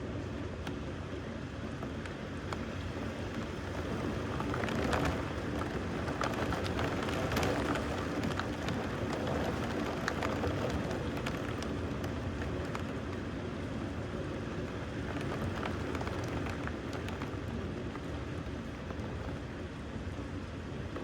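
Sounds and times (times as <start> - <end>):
steady rain falling: 0.9 - 21.0.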